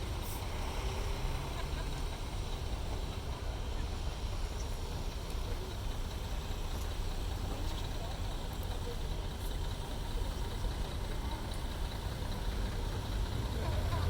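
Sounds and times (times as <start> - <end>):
faint voices: 0.0 - 14.0
heavy engine idling: 0.0 - 14.0.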